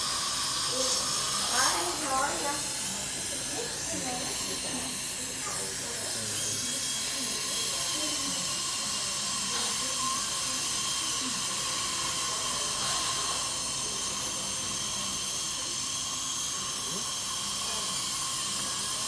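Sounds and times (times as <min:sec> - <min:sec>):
dental equipment hissing: 0:00.0 - 0:19.0.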